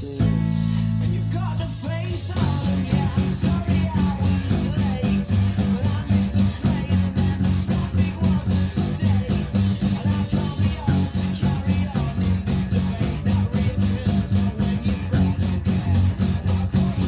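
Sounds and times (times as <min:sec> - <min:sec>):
bass line: 0:00.0 - 0:17.0
strummed electric guitar: 0:00.0 - 0:17.0.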